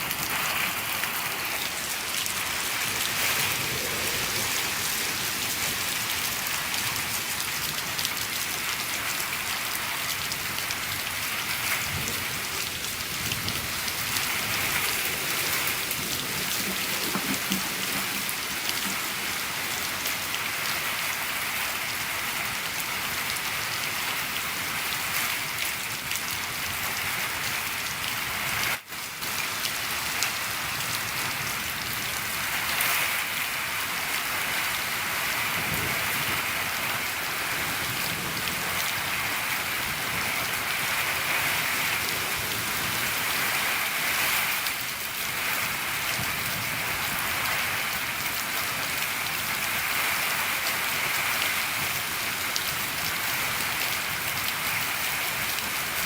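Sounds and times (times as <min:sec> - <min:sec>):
rain falling on a shed: 0:00.0 - 0:56.0.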